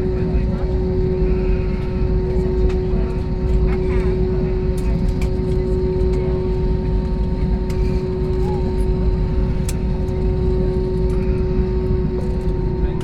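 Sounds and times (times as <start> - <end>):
aircraft cabin rumble and hum: 0.0 - 13.0.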